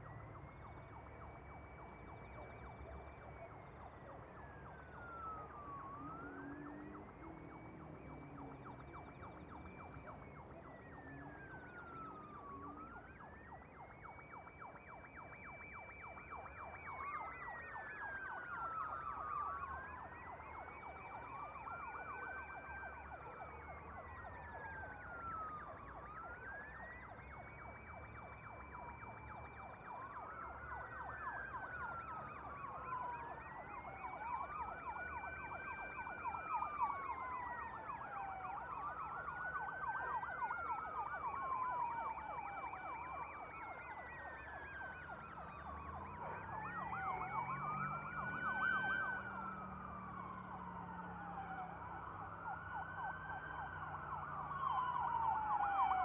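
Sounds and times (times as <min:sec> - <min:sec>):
emergency vehicle sirens wailing: 0:00.0 - 0:56.0.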